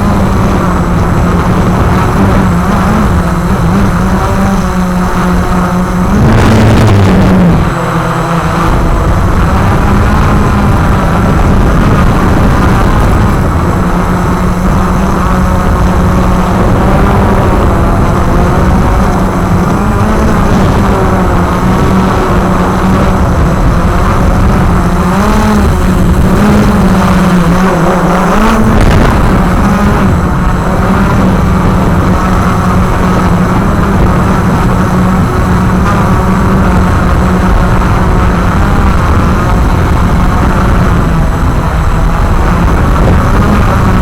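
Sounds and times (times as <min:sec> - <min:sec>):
drone propellers humming: 0:00.0 - 0:44.0.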